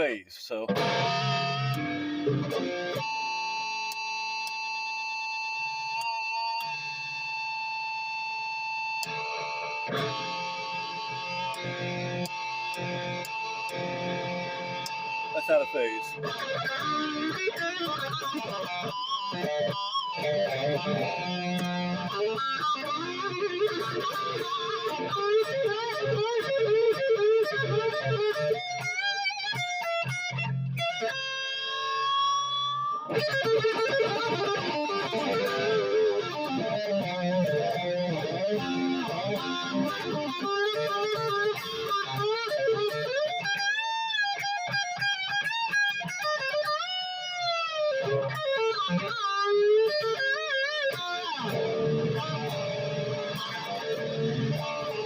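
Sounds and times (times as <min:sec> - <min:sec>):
electric guitar lead line: 0:00.0 - 0:55.0.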